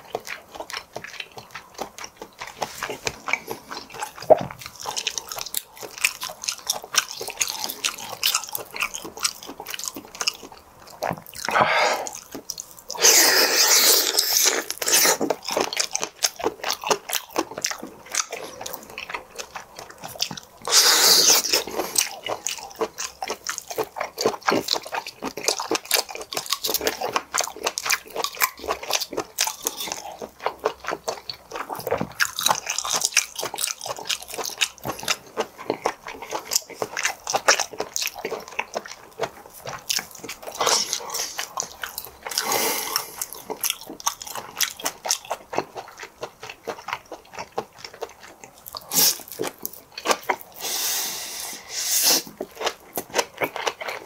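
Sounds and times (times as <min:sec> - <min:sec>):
chewing with wet mouth clicks: 0:00.0 - 0:51.0, 0:52.0 - 0:54.0.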